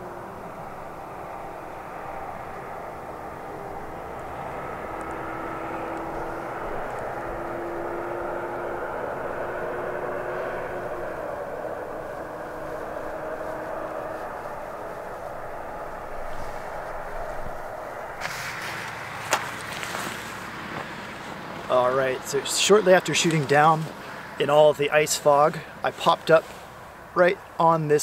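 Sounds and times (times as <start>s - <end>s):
distant engine drone: 0.0s - 28.0s.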